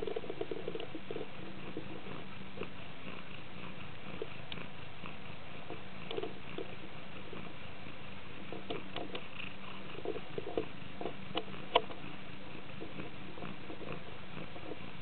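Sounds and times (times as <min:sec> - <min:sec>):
cat purring: 0:00.0 - 0:15.0
kittens soft clicks and squeaks: 0:00.0 - 0:15.0.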